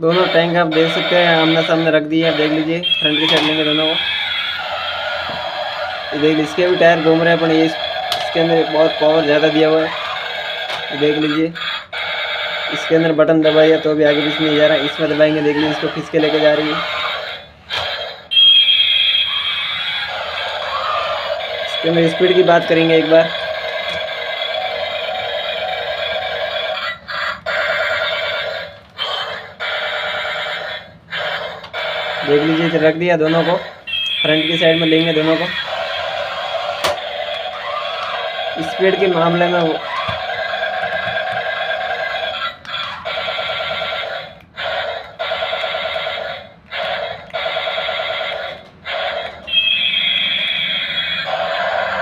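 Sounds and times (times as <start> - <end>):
warbling electronic alarm sound: 0.0 - 52.0.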